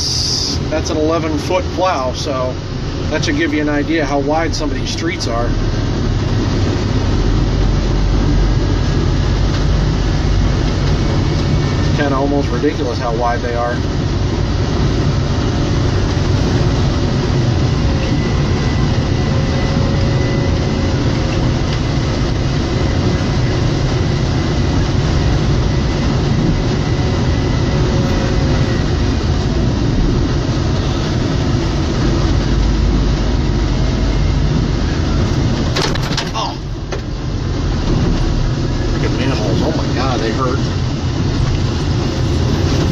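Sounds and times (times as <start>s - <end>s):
loader diesel engine rumbling: 0.0s - 42.9s.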